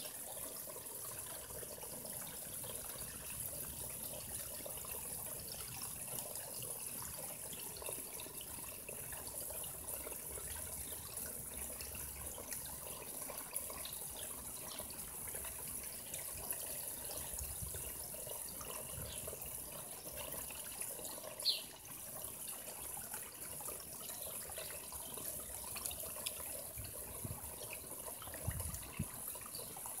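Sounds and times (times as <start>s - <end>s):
water trickling into pond: 0.0s - 30.0s.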